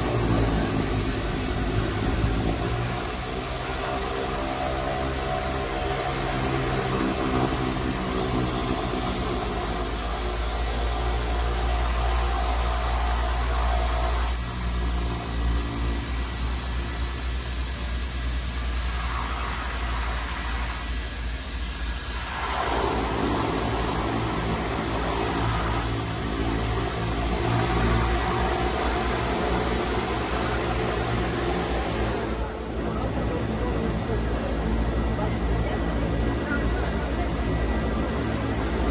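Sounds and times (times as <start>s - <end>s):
turbine whine: 0.0s - 38.9s
turboprop engine drone: 0.0s - 38.9s.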